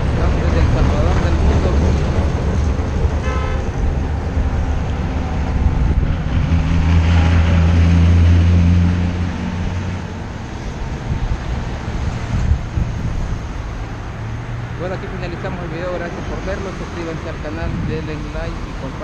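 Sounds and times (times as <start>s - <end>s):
deep engine drone: 0.0s - 16.9s
road traffic rumble: 0.0s - 19.0s.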